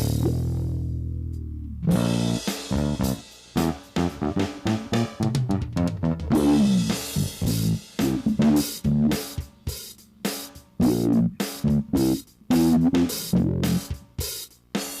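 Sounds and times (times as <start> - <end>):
bass guitar: 0.0 - 14.3
drum kit: 0.0 - 15.0.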